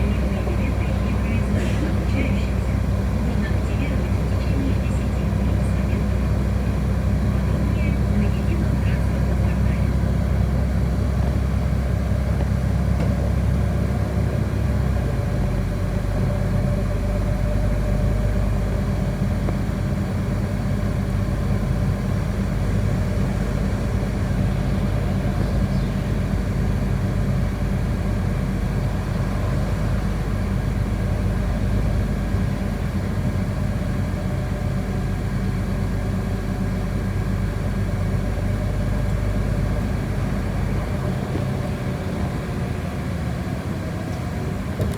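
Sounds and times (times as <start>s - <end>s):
bus engine drone: 0.0s - 44.9s
road noise: 0.0s - 44.9s.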